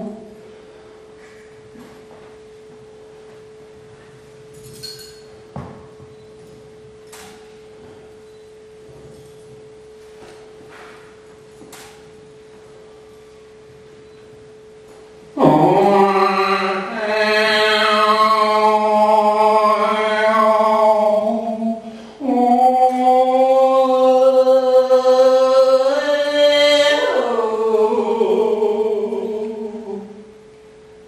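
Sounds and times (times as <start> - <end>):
steady pure tone: 0.0 - 31.0.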